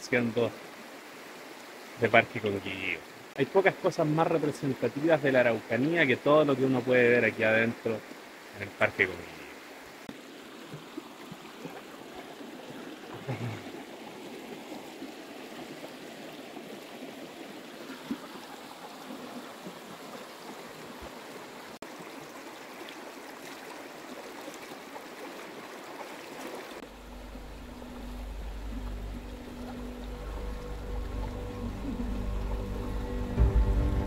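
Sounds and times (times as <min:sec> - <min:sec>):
mountain river rushing: 0:00.0 - 0:34.0.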